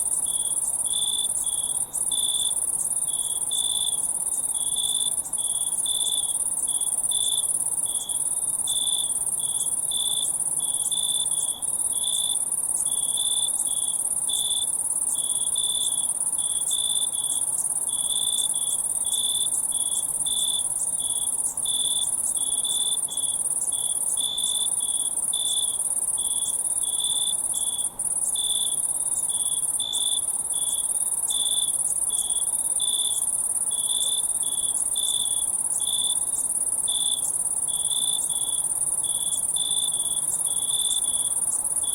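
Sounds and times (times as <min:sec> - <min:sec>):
crickets chirping: 0:00.0 - 0:41.9
high-pitched insect trill: 0:00.0 - 0:41.9.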